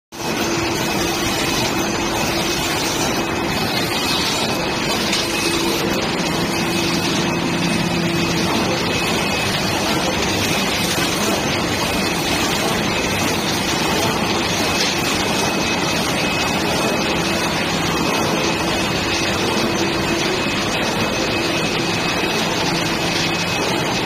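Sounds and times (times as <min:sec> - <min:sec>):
production line machinery running: 0:00.1 - 0:24.0.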